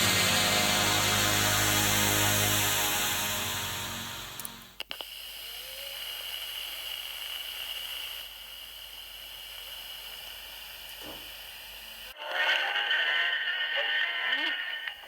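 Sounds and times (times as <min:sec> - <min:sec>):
tape hiss: 0:00.0 - 0:12.2.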